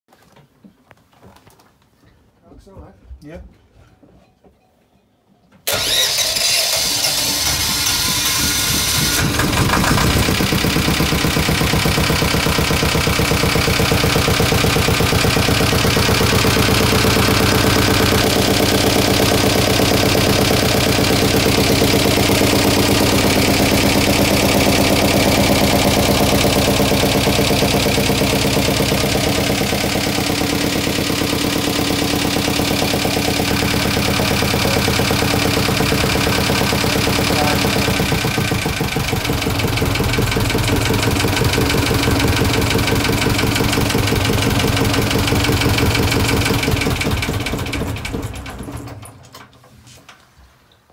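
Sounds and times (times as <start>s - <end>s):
boat engine idling: 7.2s - 48.5s.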